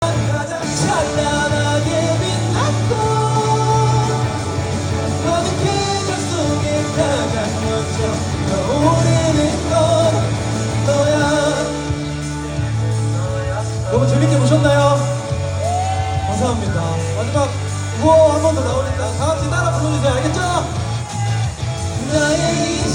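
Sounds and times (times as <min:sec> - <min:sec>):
amplified band playing: 0:00.0 - 0:22.9
person singing: 0:00.0 - 0:22.9
steady bass line: 0:00.0 - 0:22.9.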